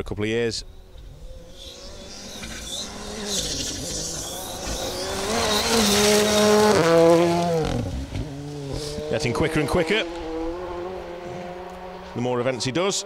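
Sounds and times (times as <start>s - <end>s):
rally car engine revving: 0.6s - 13.0s.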